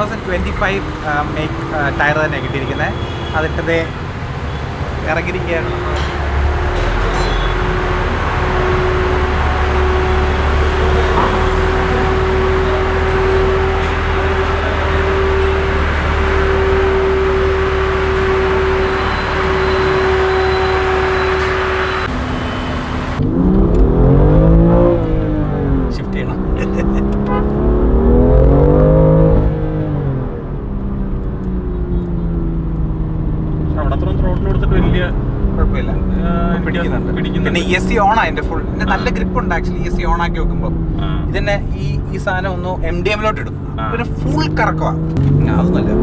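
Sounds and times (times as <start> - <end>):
car engine accelerating: 0.0 - 46.0
in-cabin road noise drone: 0.0 - 46.0.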